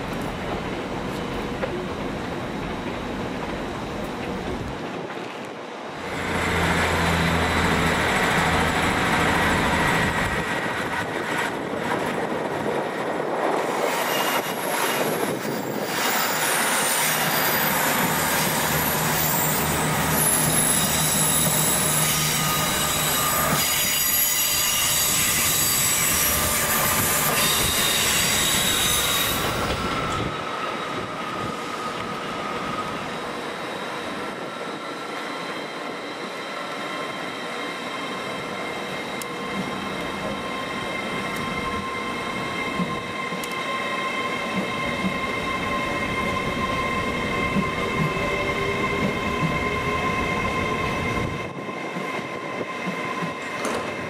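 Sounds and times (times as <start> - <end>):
train low hum: 0.0 - 54.0
train wheel squeal: 6.0 - 12.1, 12.9 - 54.0.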